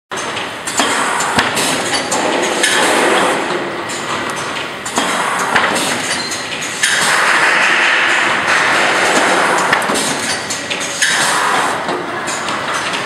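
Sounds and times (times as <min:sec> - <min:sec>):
machines clattering and clanking: 0:00.1 - 0:13.0.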